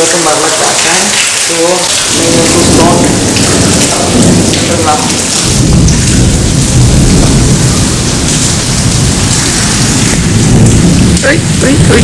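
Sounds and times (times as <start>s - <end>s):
heavy rain pouring: 0.0s - 12.0s
deep thunder rumble: 1.4s - 12.0s.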